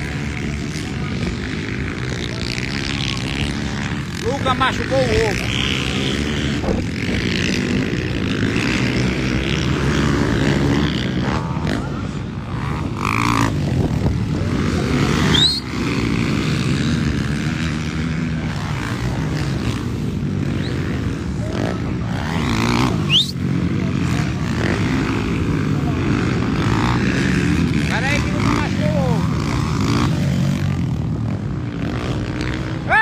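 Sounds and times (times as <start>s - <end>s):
motocross bike engines racing: 0.0s - 33.0s.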